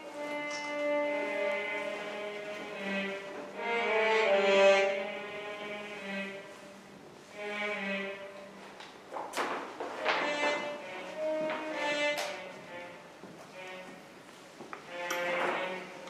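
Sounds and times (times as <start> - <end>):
slow music of bowed notes: 0.0 - 16.0.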